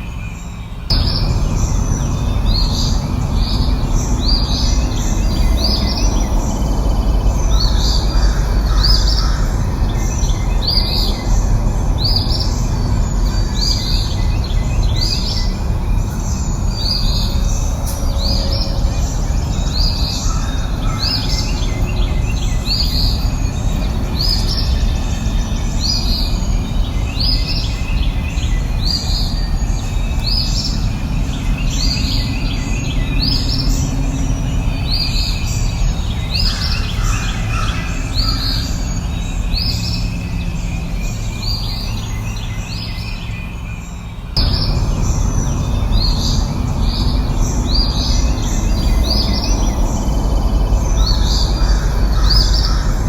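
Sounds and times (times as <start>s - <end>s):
low rumbling background noise: 0.0s - 53.0s.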